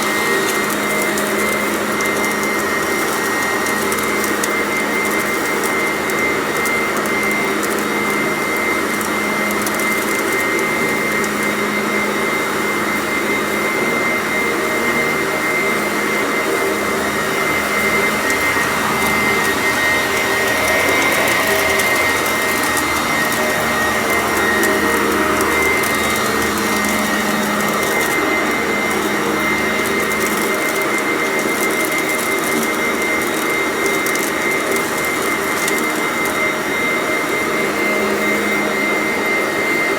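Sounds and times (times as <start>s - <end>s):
vacuum cleaners whining: 0.0s - 39.9s.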